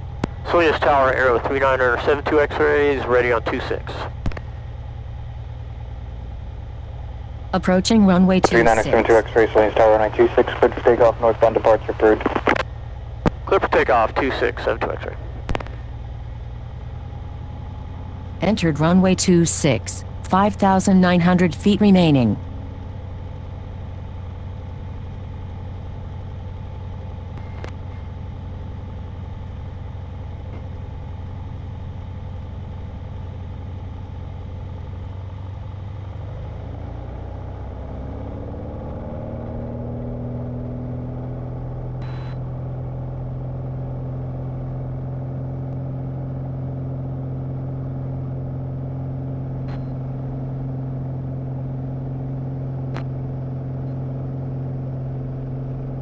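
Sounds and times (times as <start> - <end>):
light airplane engine running: 0.0 - 56.0.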